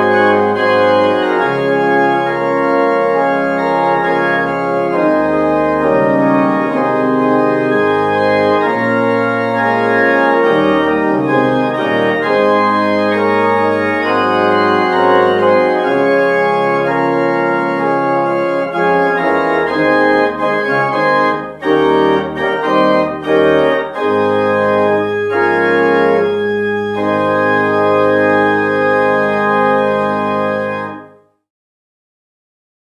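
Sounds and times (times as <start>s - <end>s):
organ music: 0.0s - 31.4s.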